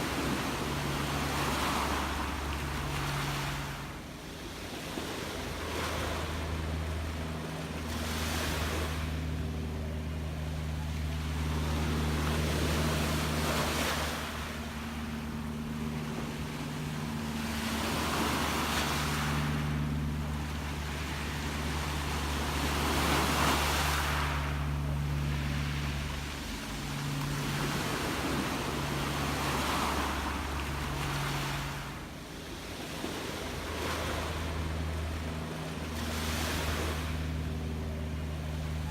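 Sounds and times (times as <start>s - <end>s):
sea waves breaking: 0.0s - 38.9s
steady low hum: 0.0s - 38.9s.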